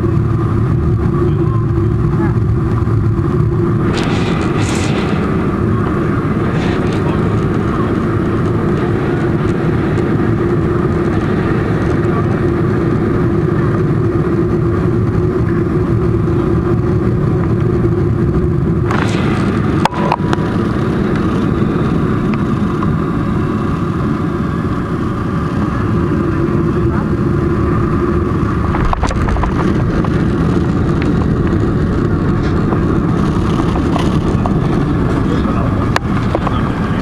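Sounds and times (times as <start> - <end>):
airplane cabin engine rumble: 0.0 - 37.0.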